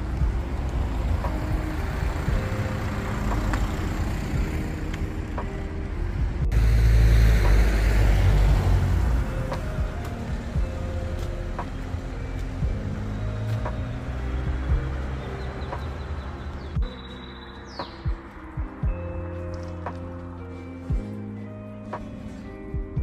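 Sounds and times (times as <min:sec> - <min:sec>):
low rumble of street noise: 0:00.0 - 0:23.0
quiet background music: 0:00.0 - 0:23.0.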